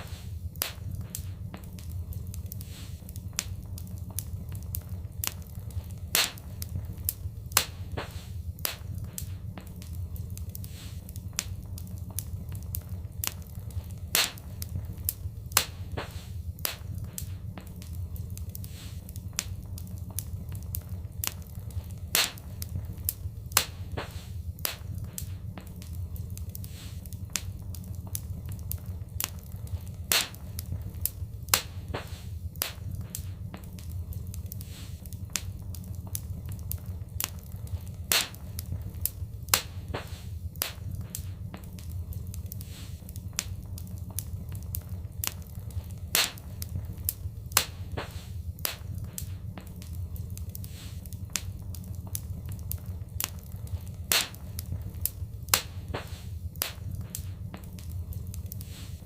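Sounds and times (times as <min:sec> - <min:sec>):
low rumble of flames: 0:00.0 - 0:59.0
wood fire pops and snaps: 0:00.0 - 0:59.0.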